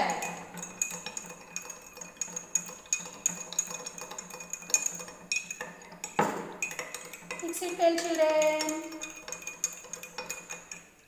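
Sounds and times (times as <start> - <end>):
spoon clinking against glass: 0.0 - 11.0.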